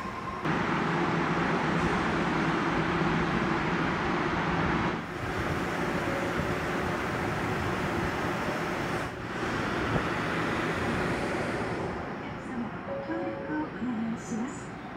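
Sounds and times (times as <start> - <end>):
monorail train mechanical hum: 0.0 - 14.9.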